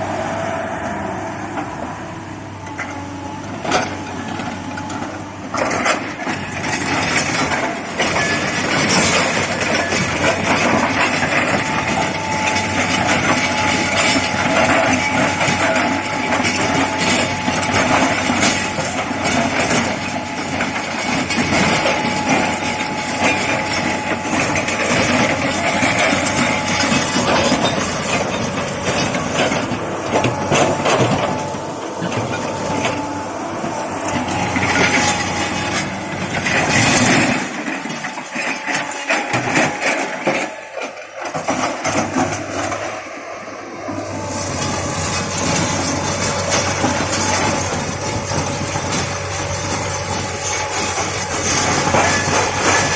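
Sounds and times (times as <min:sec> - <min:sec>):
excavator diesel engine working: 0:00.0 - 0:52.9
steady hydraulic whine: 0:00.0 - 0:52.9.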